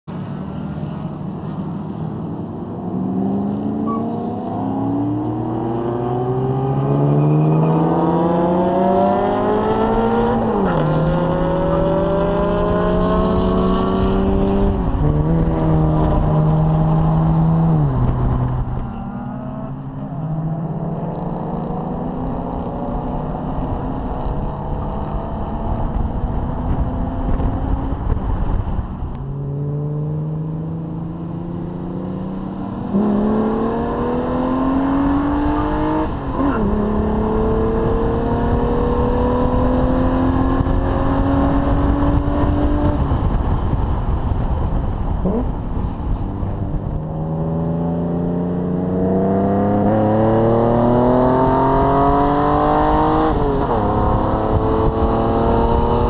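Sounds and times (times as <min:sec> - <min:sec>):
road and wind noise: 0:00.0 - 0:56.0
car engine accelerating hard: 0:02.8 - 0:56.0.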